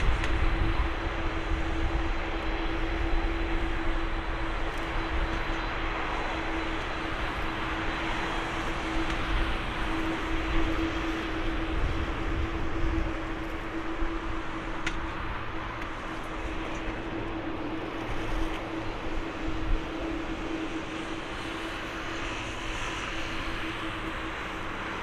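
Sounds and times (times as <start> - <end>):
jet engines roaring at takeoff: 0.0 - 25.0.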